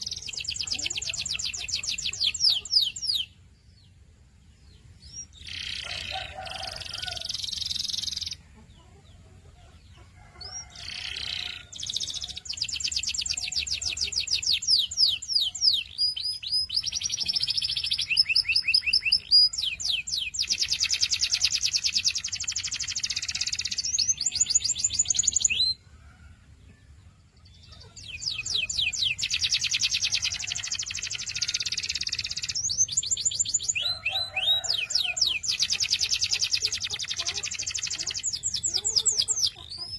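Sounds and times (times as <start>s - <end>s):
canary singing trills: 0.0s - 4.0s, 4.7s - 25.9s, 27.4s - 39.9s.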